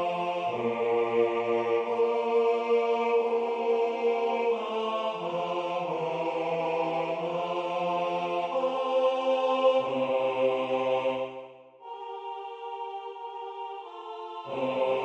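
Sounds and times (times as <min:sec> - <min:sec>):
synthetic choir singing chords: 0:00.0 - 0:15.0.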